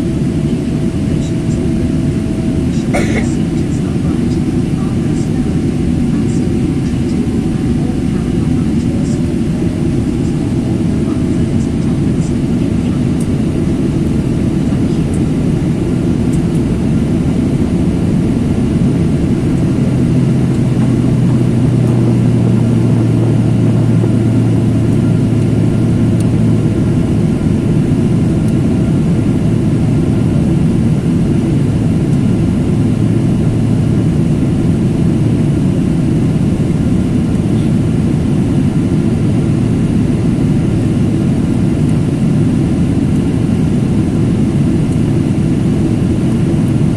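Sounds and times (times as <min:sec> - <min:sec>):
jet airliner cabin noise: 0:00.0 - 0:46.9
steady low hum: 0:00.0 - 0:46.9.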